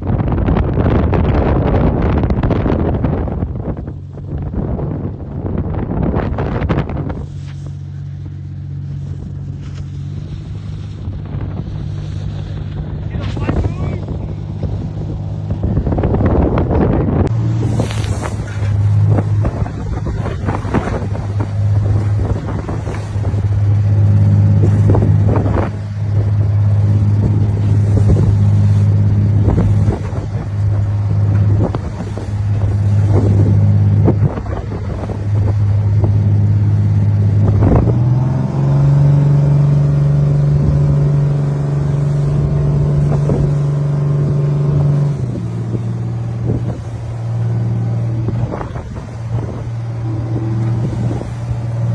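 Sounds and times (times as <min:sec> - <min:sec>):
boat engine running: 0:00.0 - 0:51.9
wind buffeting microphone: 0:00.0 - 0:51.9.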